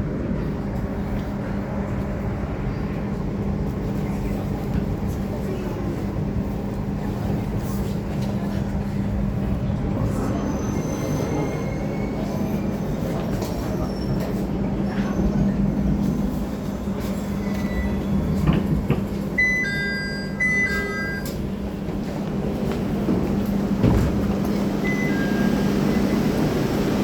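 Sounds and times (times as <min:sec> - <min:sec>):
train hum and rumble: 0:00.0 - 0:27.0.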